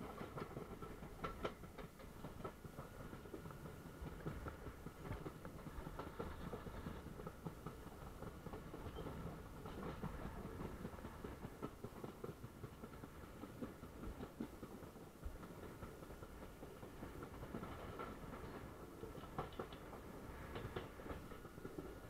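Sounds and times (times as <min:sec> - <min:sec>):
train clicks and knocks: 0:00.0 - 0:22.0
train wheels rumbling on rails: 0:00.0 - 0:22.0.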